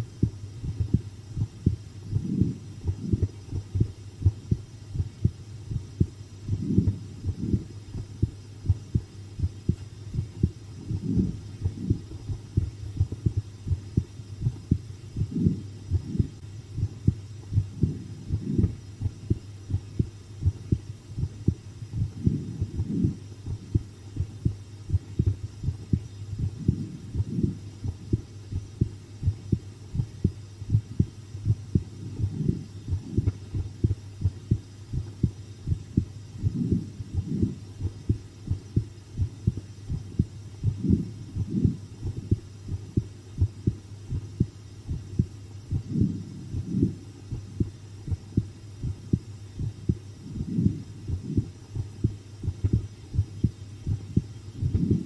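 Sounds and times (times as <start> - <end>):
heartbeat thumps: 0.0 - 55.0
steady low hum: 0.0 - 55.0.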